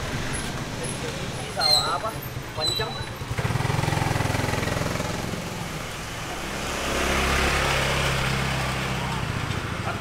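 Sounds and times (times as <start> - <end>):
scooter engines passing: 0.0 - 10.0.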